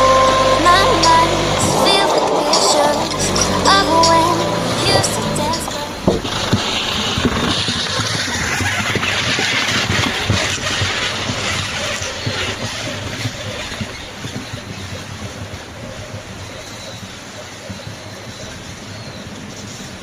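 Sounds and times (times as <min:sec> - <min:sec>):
car driving on rough track: 0:00.0 - 0:20.0.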